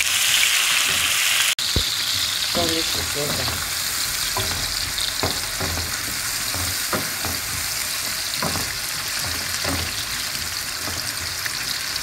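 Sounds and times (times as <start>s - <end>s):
vegetables sizzling in hot oil: 0.0s - 12.0s
spatula knocking and scraping pan: 0.8s - 12.0s.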